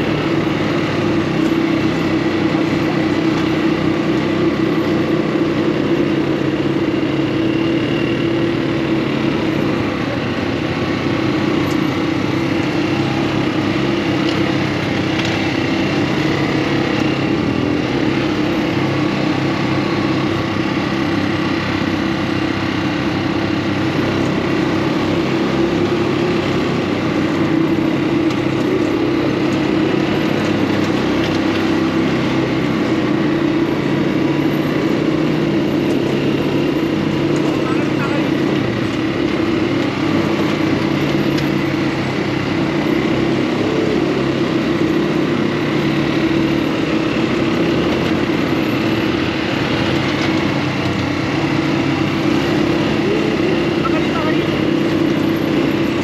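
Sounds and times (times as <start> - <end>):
small buggy engine running: 0.0 - 56.0.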